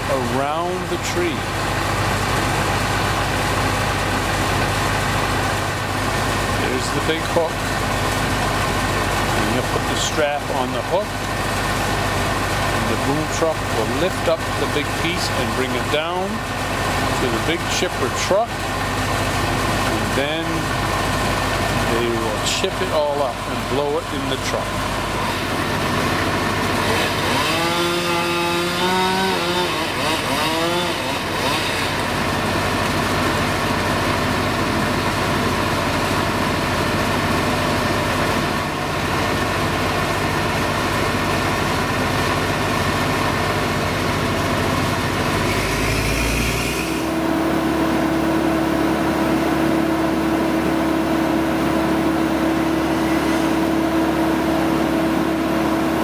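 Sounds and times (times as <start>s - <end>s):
machinery engines running: 0.0s - 56.0s.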